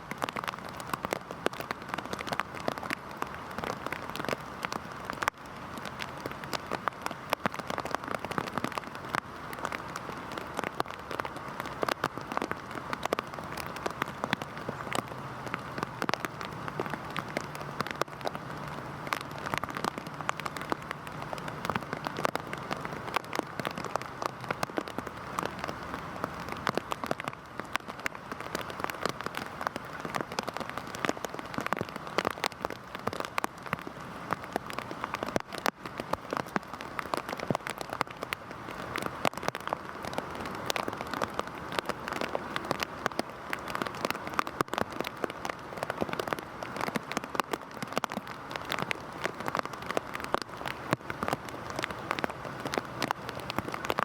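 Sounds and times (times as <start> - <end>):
heavy rain falling: 0.0 - 54.0
raindrops striking close by: 0.0 - 54.0.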